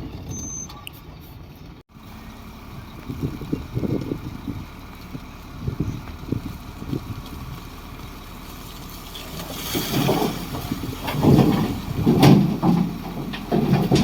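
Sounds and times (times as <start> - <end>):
bulldozer diesel engine running: 1.1 - 14.0.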